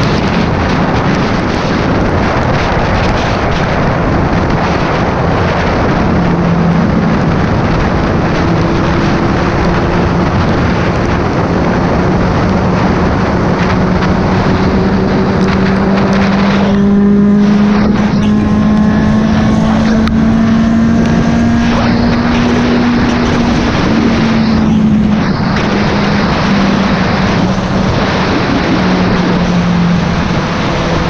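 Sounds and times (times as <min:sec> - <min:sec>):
vehicle engine running: 0:00.0 - 0:31.0
wind and road noise rush: 0:00.0 - 0:31.0.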